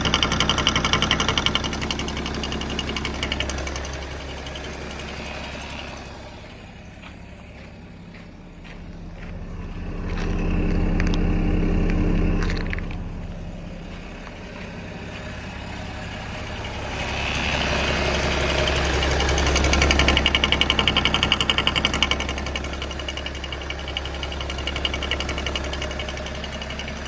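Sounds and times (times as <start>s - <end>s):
diesel engine idling with knocking: 0.0s - 27.0s.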